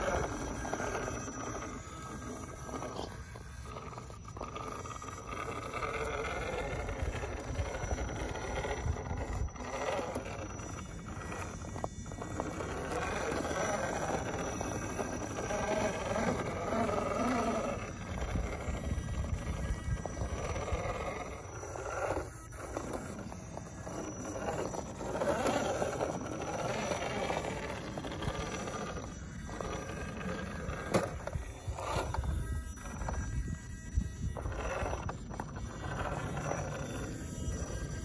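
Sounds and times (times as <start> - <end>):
rc truck motor whirring: 0.0 - 38.0.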